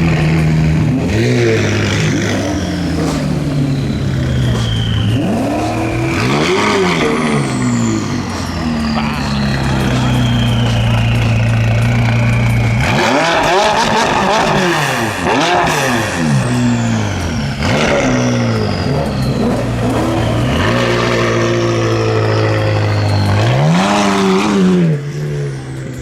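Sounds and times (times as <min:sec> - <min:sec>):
car engine revving: 0:00.0 - 0:26.0
turbo whistles: 0:02.2 - 0:25.9.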